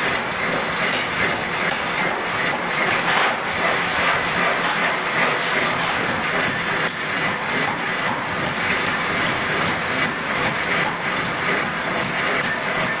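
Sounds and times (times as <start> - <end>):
forge machinery hiss and hum: 0.0 - 13.0.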